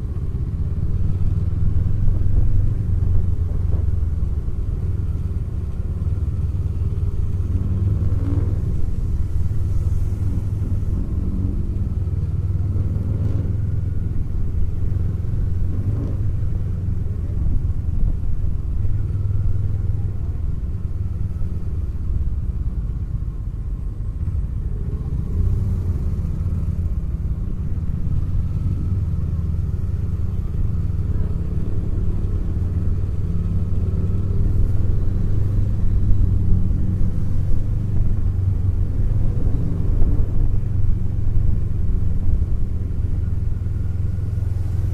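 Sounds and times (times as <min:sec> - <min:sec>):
motorcycle engine low rumble: 0:00.0 - 0:44.9.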